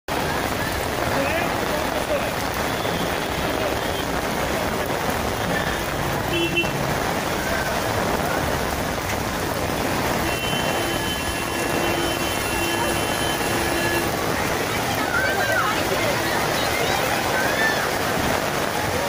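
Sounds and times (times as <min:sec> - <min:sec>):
faint traffic: 0:00.1 - 0:19.0
heavy rain on road: 0:00.1 - 0:19.0.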